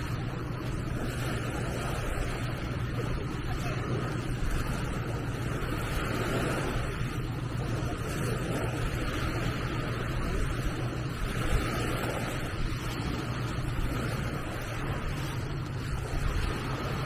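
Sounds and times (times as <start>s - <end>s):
distant engines: 0.0s - 17.0s
surf: 0.0s - 17.0s
wind: 0.0s - 17.0s.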